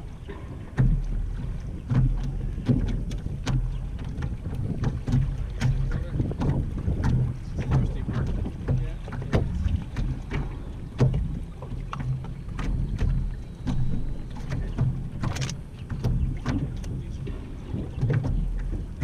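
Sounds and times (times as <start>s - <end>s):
waves slapping against hull: 0.0s - 19.0s
wind rumble on microphone: 0.0s - 19.0s.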